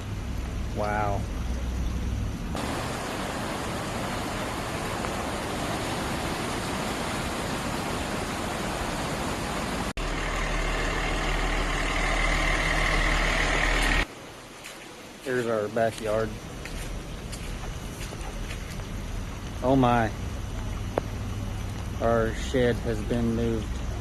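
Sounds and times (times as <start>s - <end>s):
steady low hum: 0.0s - 14.3s, 15.0s - 24.0s
heavy rain and floodwater rushing: 0.8s - 1.2s, 2.5s - 20.2s, 21.0s - 24.0s.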